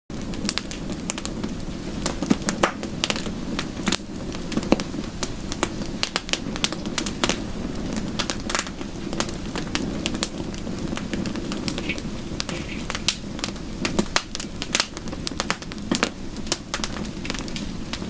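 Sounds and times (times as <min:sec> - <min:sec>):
wood fire crackling: 0:00.1 - 0:18.0.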